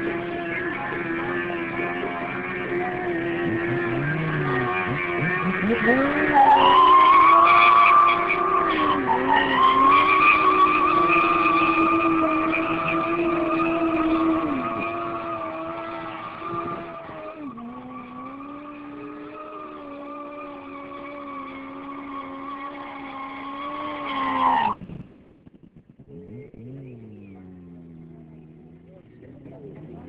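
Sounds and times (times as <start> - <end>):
motorcycle engine at high revs: 0.0 - 7.5, 8.2 - 24.1, 25.5 - 30.0.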